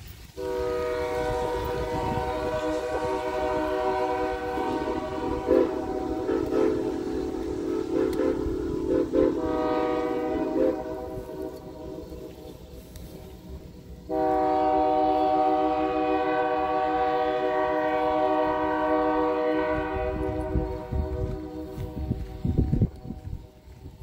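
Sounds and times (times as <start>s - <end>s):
locomotive whistle blast: 0.4s - 12.3s, 14.1s - 22.0s.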